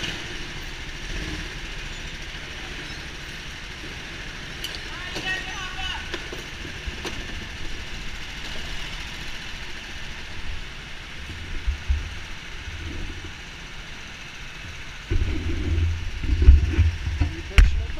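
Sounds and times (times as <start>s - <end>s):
go-karts idling: 0.0s - 17.9s
low rumbles: 0.0s - 17.9s.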